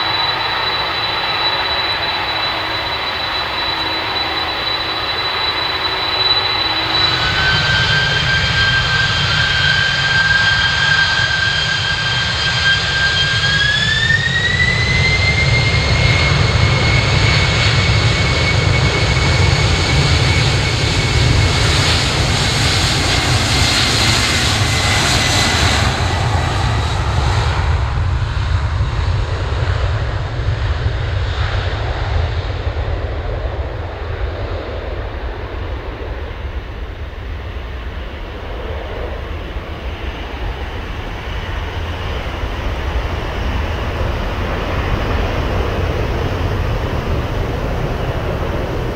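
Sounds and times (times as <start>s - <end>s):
jet engines spooling up: 0.0s - 48.9s.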